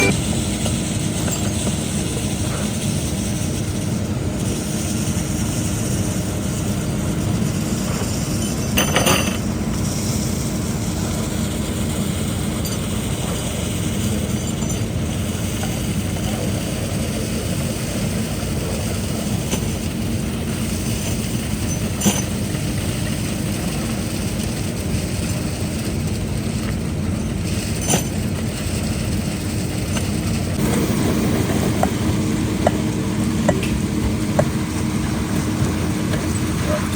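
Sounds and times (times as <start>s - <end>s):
heavy diesel truck engine running: 0.0s - 36.9s.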